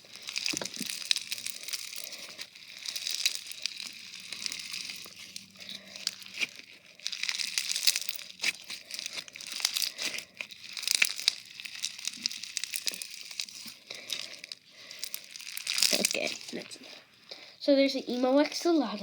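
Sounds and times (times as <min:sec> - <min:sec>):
slime crackling and popping: 0:00.0 - 0:19.0.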